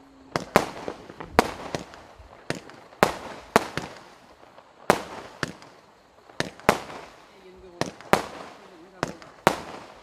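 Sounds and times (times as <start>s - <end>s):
firework bangs: 0.2s - 10.0s.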